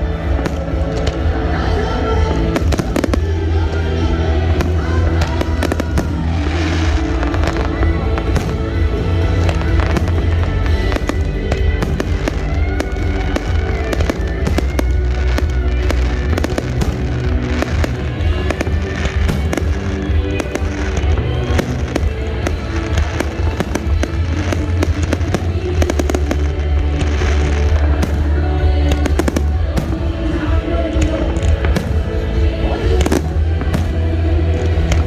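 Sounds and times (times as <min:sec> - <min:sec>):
deep booms: 0:00.0 - 0:35.0
fireworks bursting and crackling: 0:00.0 - 0:35.0
music playing: 0:00.0 - 0:35.0.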